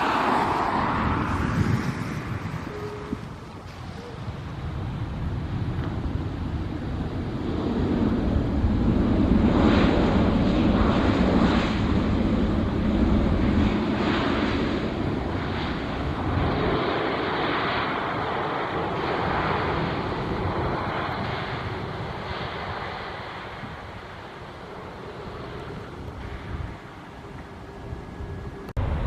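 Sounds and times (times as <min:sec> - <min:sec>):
airliner engine noise: 0:00.0 - 0:29.0
wind buffeting microphone: 0:00.0 - 0:29.0.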